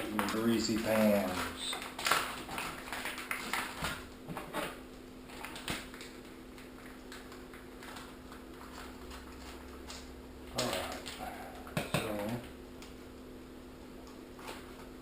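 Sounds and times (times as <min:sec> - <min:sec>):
plastic packaging crinkling: 0:00.0 - 0:12.4
faint steady hum: 0:00.0 - 0:15.0.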